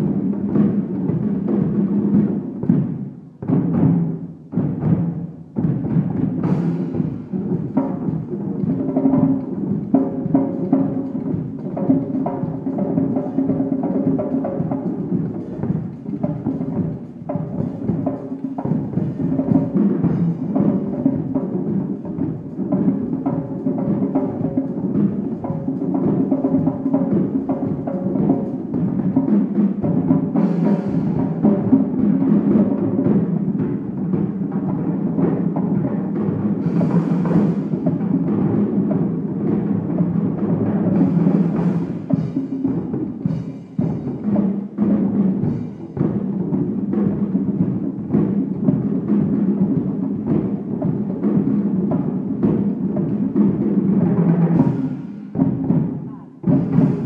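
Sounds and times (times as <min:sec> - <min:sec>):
hand drums beating: 0:00.0 - 0:57.0.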